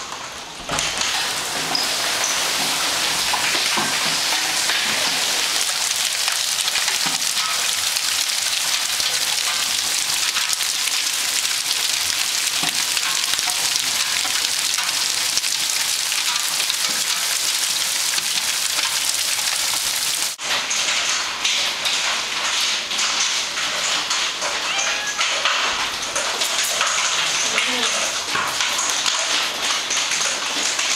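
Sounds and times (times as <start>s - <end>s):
hail and heavy rain pelting: 0.0s - 30.9s.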